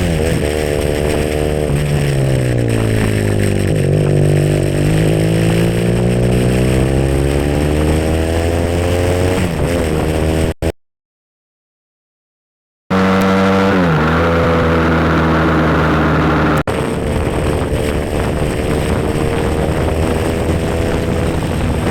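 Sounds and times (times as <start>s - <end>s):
motorcycle engine running: 0.0s - 10.6s, 12.9s - 21.9s.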